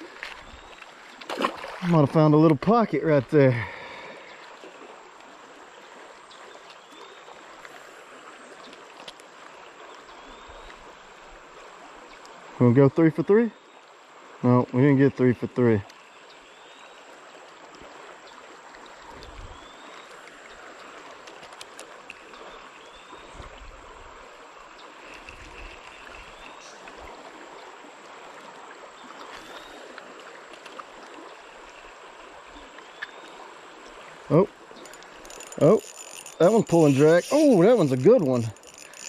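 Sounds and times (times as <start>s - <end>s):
creek water flowing over rocks: 0.0s - 39.0s.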